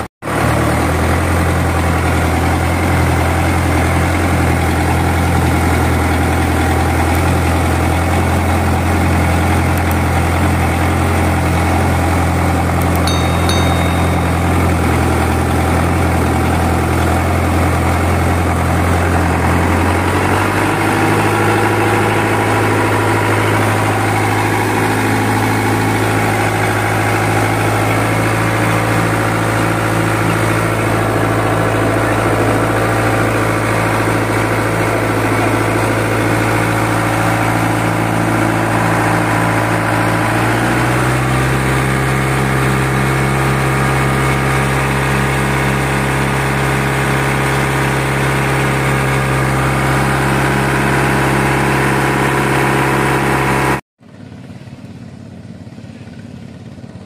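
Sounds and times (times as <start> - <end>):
diesel boat engine idling: 0.3 - 53.8.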